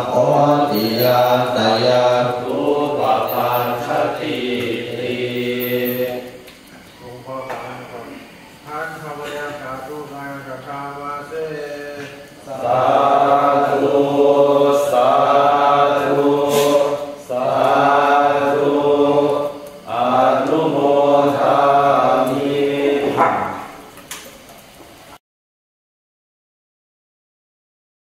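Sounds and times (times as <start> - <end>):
voices chanting a prayer: 0.0 - 23.8.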